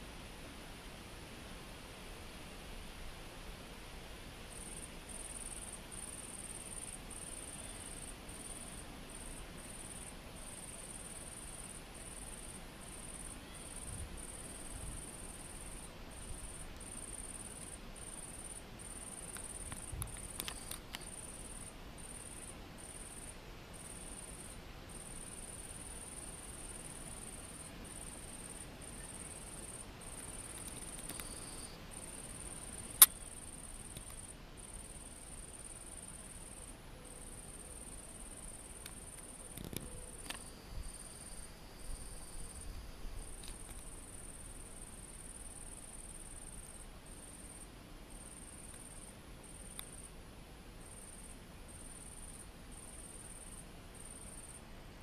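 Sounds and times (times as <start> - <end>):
insect high-pitched trill: 4.5 - 50.2, 50.8 - 54.6.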